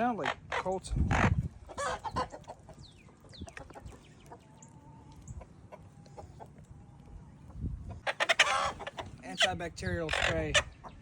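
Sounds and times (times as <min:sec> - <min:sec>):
hen calling: 0:00.0 - 0:11.0
hen clucking: 0:00.0 - 0:11.0.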